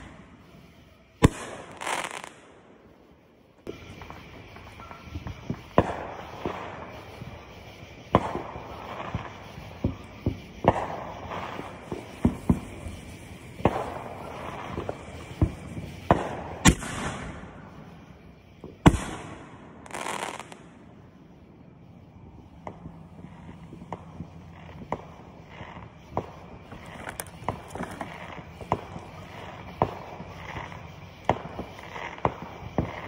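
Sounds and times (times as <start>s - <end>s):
fireworks bangs: 0.0s - 33.0s
fireworks crackling: 0.0s - 33.0s
hissing crackling bursts: 0.0s - 33.0s.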